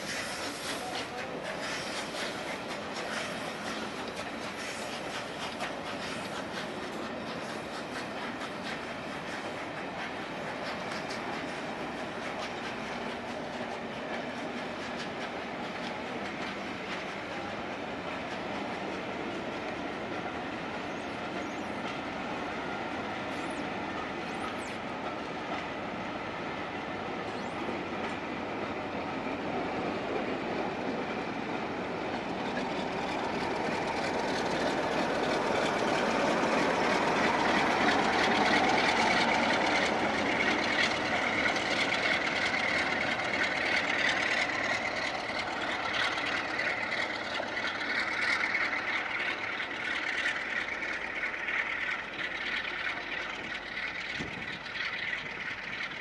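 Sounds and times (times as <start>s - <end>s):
steam train passing: 0.0s - 56.0s.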